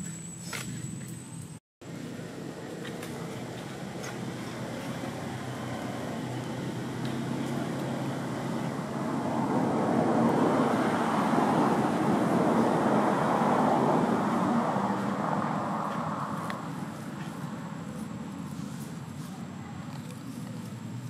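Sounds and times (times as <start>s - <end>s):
motor vehicle noise: 0.0s - 21.0s.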